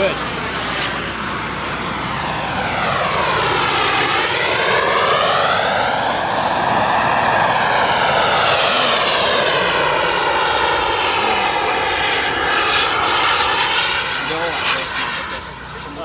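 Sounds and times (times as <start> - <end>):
model jet turbine whine: 0.0 - 16.0.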